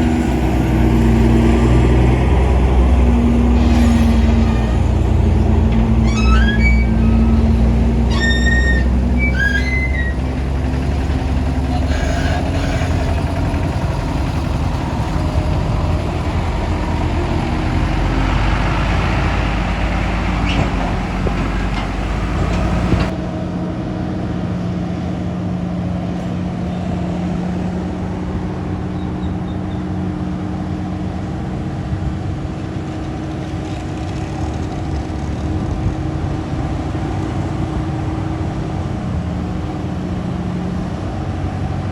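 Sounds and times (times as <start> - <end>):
diesel truck engine running: 0.0 - 23.2, 30.0 - 41.9.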